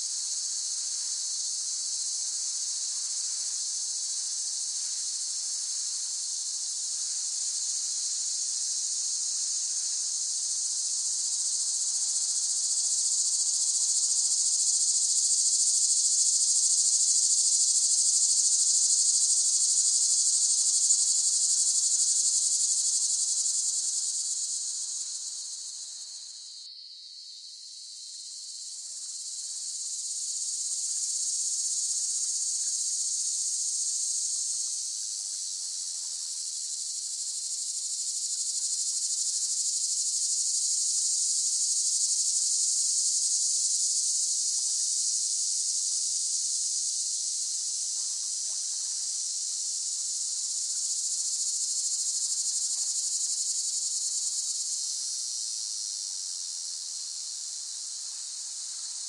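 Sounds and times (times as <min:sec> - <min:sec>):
cicadas singing in chorus: 0:00.0 - 0:59.0.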